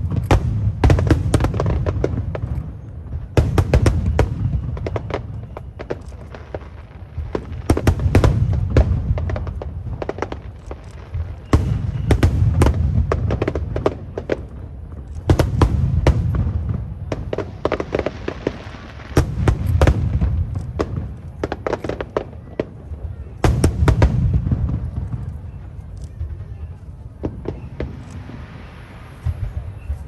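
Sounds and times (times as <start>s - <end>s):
firework cracks and crackles: 0.0s - 30.0s
firework deep booms: 0.0s - 30.0s.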